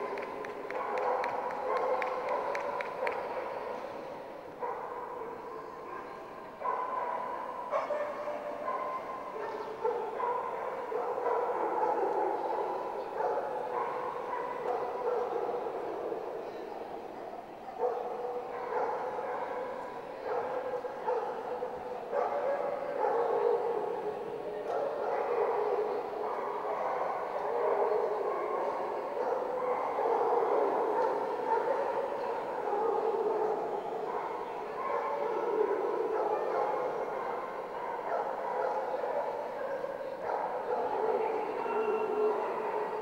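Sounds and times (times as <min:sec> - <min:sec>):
dog barking: 0:00.0 - 0:03.8, 0:04.6 - 0:16.6, 0:17.4 - 0:43.0.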